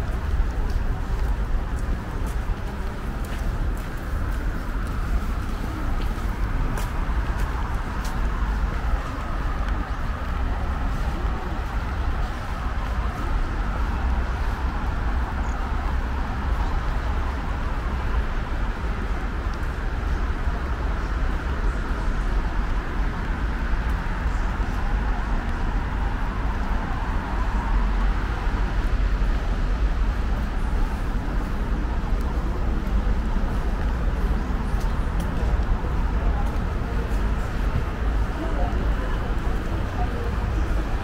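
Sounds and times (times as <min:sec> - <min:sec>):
low rumble of vehicles: 0:00.0 - 0:41.0.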